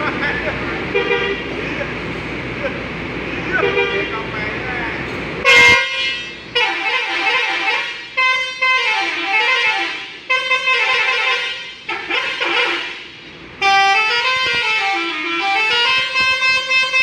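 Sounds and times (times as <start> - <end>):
multi-tone bus horn playing melodies: 0.0 - 2.0, 3.4 - 4.4, 5.4 - 17.0.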